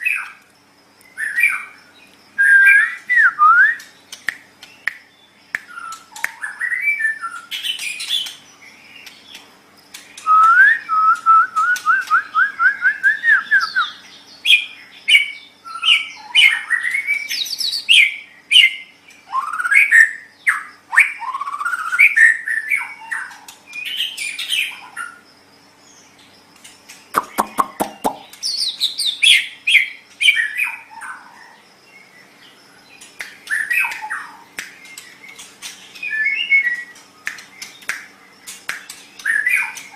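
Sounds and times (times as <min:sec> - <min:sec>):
bird singing whistles and chirps: 0:01.0 - 0:09.4, 0:10.1 - 0:25.2, 0:27.1 - 0:32.1, 0:33.2 - 0:39.9.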